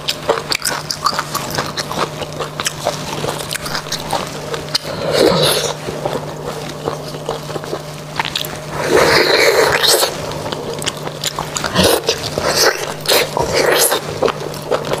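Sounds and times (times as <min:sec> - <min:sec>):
sucking marrow from bone: 0:00.0 - 0:15.0
wet smacking and chewing: 0:00.0 - 0:15.0.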